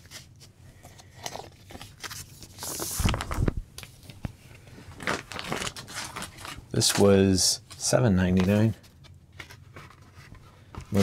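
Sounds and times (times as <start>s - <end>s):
cardboard sleeve rustling and scraping: 0.0s - 3.6s, 4.9s - 11.0s.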